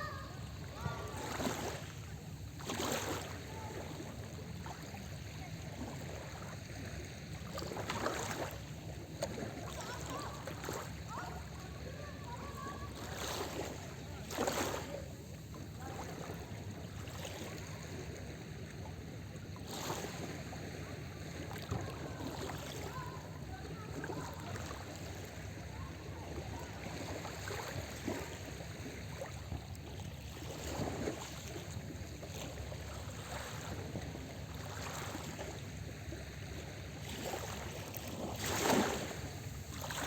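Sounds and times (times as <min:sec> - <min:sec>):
low rumble of surf: 0:00.0 - 0:40.0
small waves breaking on beach: 0:00.0 - 0:40.0.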